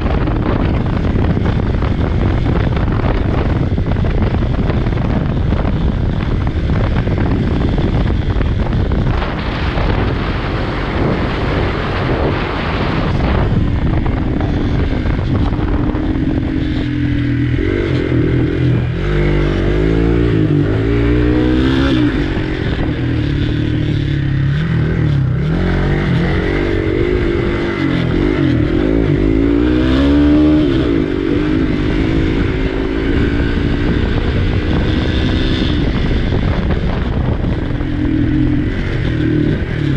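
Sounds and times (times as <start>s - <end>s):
motorcycle engine revving: 0.0s - 39.9s
wind buffeting on microphone: 0.0s - 39.9s.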